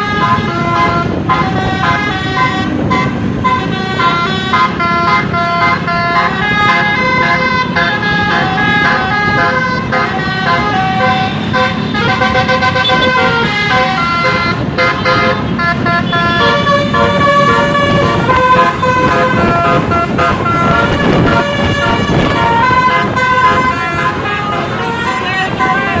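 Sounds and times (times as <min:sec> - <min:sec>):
multi-tone electric horn melody: 0:00.0 - 0:26.0.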